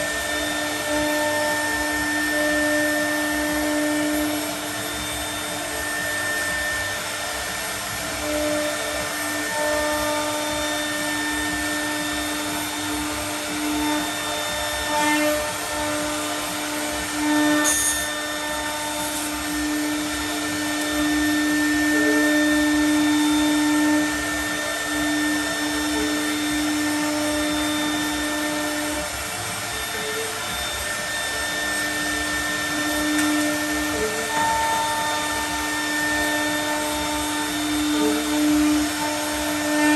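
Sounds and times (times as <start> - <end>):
milling router cutting panel: 0.0 - 39.9.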